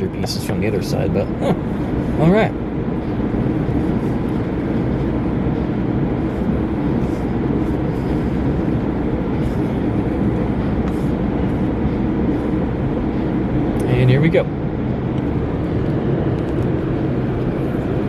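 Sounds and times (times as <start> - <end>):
car wash machinery rumbling: 0.0 - 18.0.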